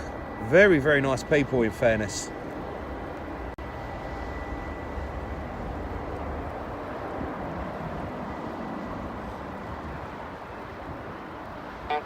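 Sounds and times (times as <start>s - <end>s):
faint high whine: 0.0s - 12.0s
low outdoor rumble: 0.0s - 12.0s.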